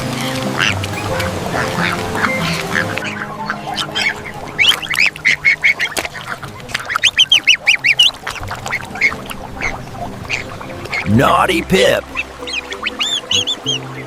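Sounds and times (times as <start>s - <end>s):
soft background music: 0.0s - 14.0s
duckling quacking: 0.1s - 14.0s.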